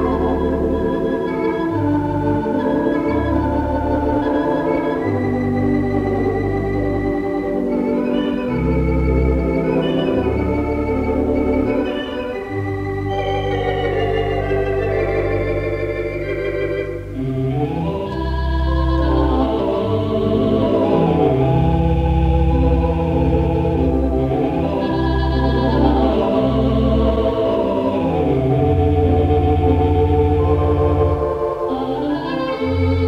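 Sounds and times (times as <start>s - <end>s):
theatre organ playing sustained chords: 0.0s - 33.0s.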